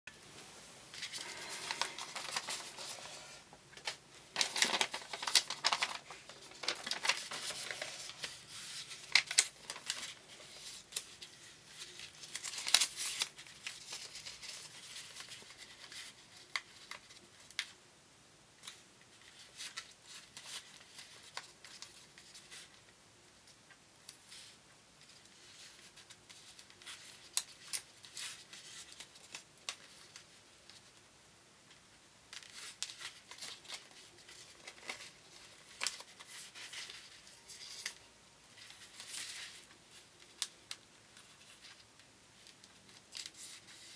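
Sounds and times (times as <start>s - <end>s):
paper rustling and creasing: 0.3s - 17.7s, 24.2s - 31.0s, 32.3s - 43.9s.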